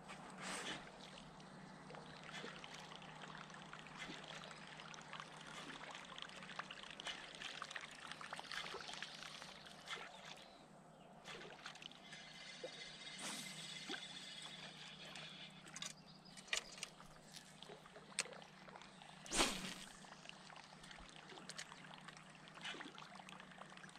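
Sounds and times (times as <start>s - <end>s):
water trickling and lapping: 0.0s - 23.9s
small ticks and drips: 1.0s - 10.4s, 11.6s - 23.9s.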